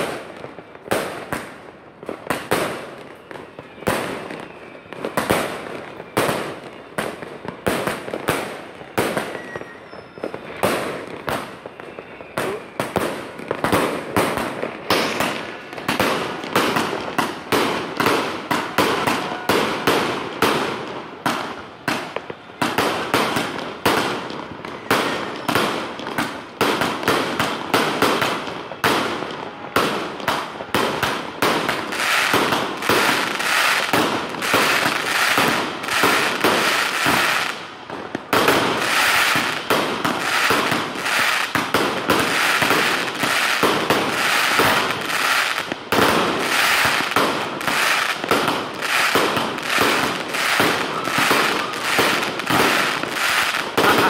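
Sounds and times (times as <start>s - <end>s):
fireworks launching and bursting: 0.0s - 54.0s.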